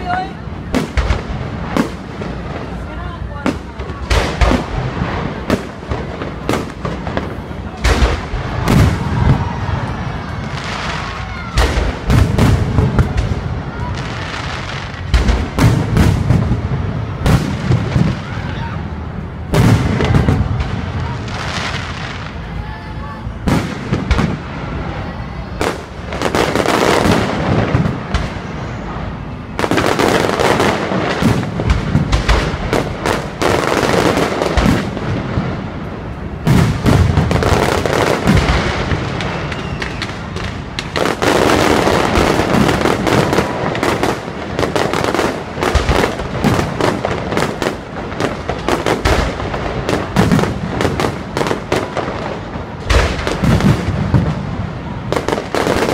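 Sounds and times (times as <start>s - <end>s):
firework bangs: 0.0s - 55.9s
firework crackling: 0.0s - 55.9s.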